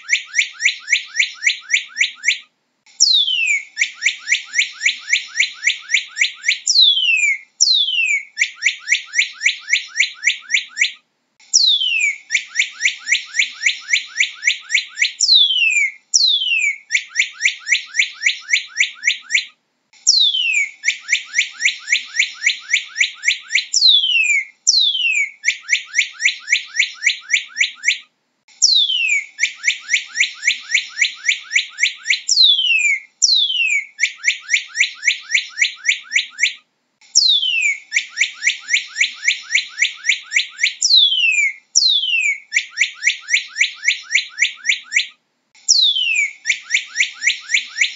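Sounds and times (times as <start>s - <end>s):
bird singing whistled phrases: 0.0s - 45.1s, 45.7s - 47.9s.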